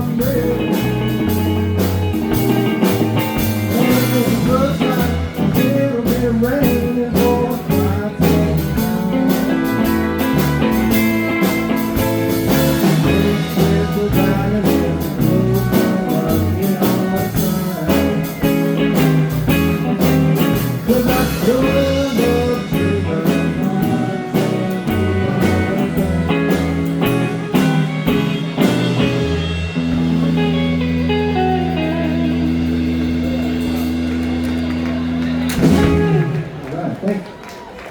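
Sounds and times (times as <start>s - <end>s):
drum kit: 0.0s - 36.8s
electric guitar lead: 0.0s - 37.0s
bass guitar: 0.0s - 37.2s.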